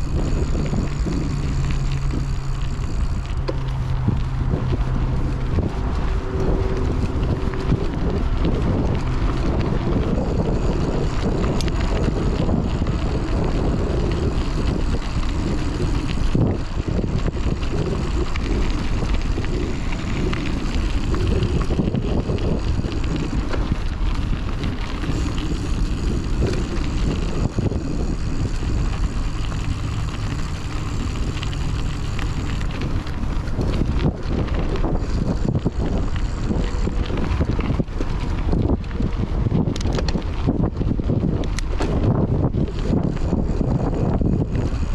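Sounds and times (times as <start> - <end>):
bike clicks and rattles: 0.0 - 44.9
mountain bike rolling rumble: 0.0 - 44.9
wind buffeting microphone: 0.0 - 44.9.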